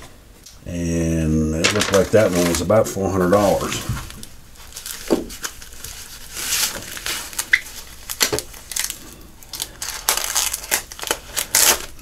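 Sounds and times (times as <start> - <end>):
paper rustling and crinkling: 1.6 - 12.0.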